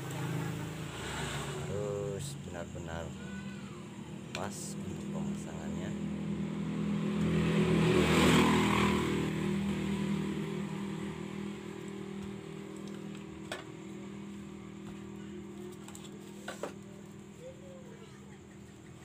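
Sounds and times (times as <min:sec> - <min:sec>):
vehicle engine passing: 0:00.0 - 0:03.3, 0:04.0 - 0:17.5.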